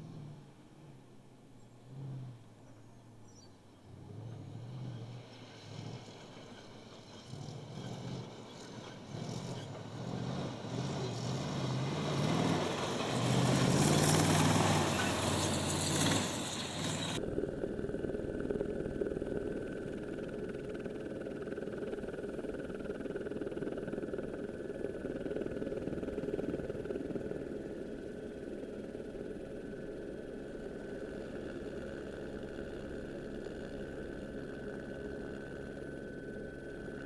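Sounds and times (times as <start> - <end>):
steady engine drone: 0.0 - 37.0.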